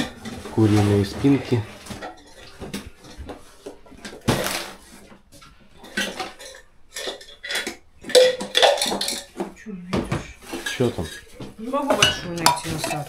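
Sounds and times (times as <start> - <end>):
metal pots and dishes clattering: 0.0 - 5.2, 5.8 - 13.0.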